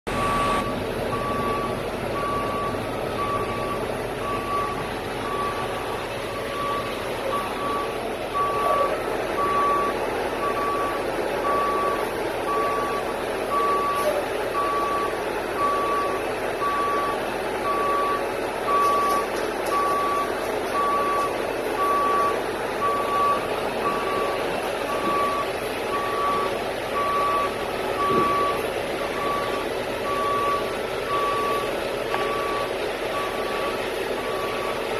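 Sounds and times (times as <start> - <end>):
truck back-up alarm beeping: 0.1 - 34.9
truck engine hum: 0.1 - 34.9.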